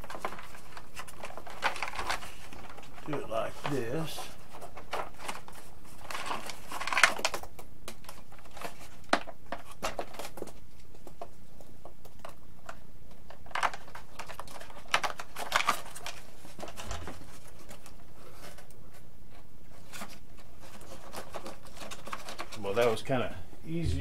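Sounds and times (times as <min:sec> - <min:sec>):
foam and plastic rustling: 0:00.0 - 0:10.8, 0:13.4 - 0:18.7, 0:19.7 - 0:23.2.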